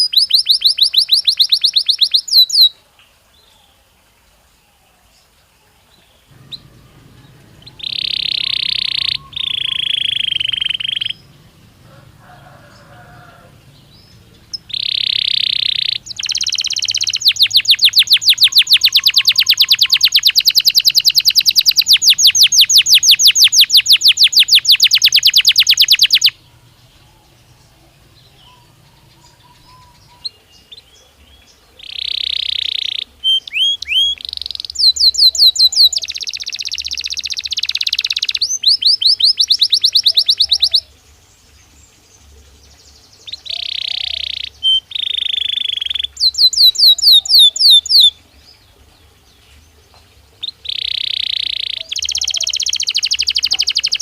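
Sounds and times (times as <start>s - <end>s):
canary singing in trills: 0.0s - 2.8s, 5.9s - 49.4s, 50.0s - 54.0s.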